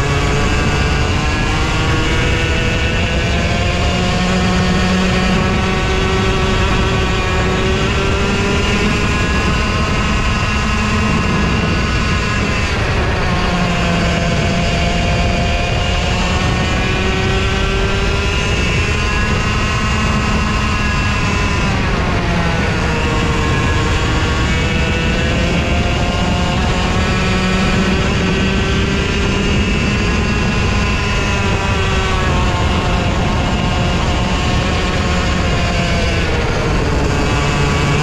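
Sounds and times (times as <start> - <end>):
racing kart engine at high revs: 0.0 - 38.0
steady rush of noise: 0.0 - 38.0.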